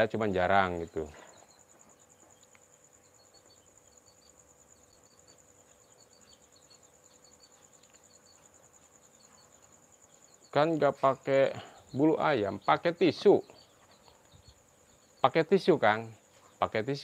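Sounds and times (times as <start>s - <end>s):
faint high chirps: 0.0s - 17.0s
high insect chirring: 0.0s - 17.0s.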